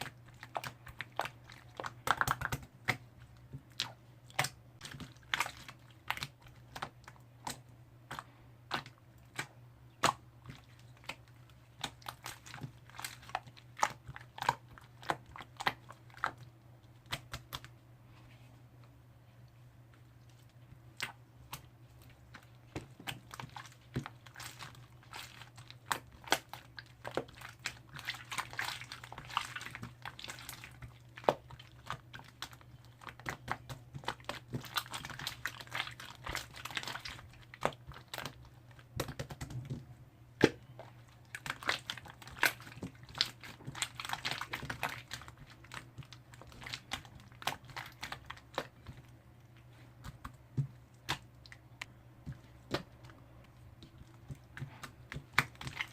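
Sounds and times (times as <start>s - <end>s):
slime squishing and popping: 0.0s - 17.7s, 21.0s - 39.8s, 40.4s - 49.1s, 50.0s - 55.9s
faint low hum: 0.0s - 55.9s.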